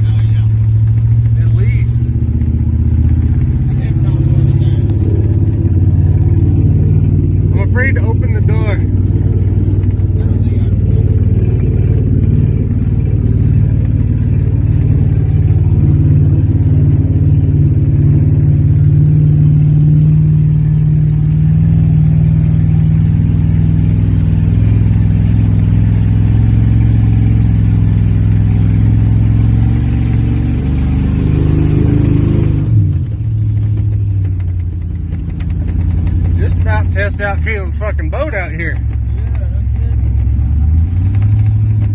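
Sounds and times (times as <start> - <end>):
pickup truck engine under load: 0.0 - 41.9.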